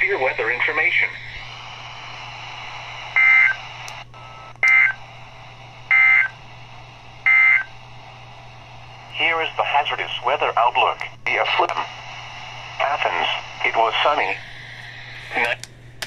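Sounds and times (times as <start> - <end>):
steady hiss and low hum: 0.0 - 16.0.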